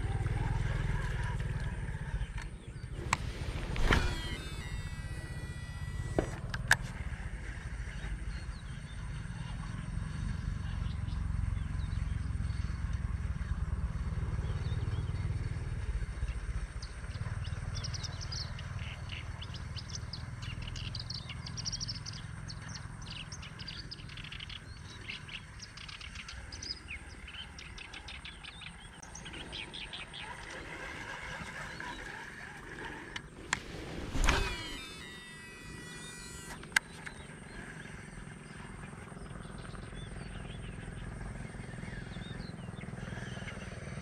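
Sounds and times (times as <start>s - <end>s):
wild birds chirping: 0.0s - 44.0s.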